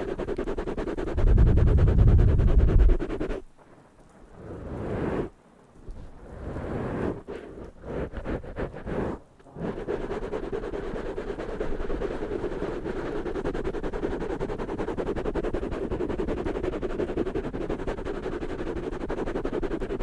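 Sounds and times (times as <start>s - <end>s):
fingertips scratching microphone foam: 0.0s - 3.4s, 5.9s - 20.0s.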